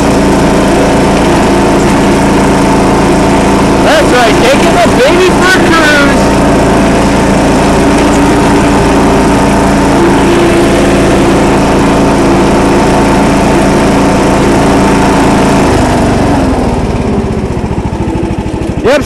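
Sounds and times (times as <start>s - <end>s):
lawn tractor engine running: 0.0s - 19.0s.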